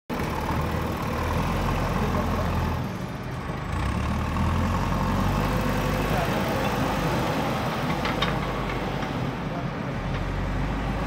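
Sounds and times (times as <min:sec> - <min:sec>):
diesel engine running: 0:00.1 - 0:11.0.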